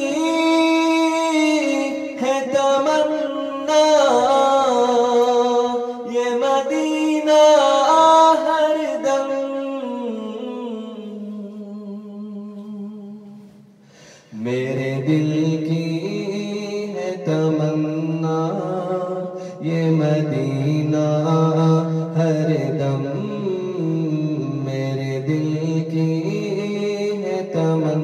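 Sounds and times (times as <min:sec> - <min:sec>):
man singing unaccompanied: 0:00.0 - 0:13.4, 0:14.3 - 0:28.0.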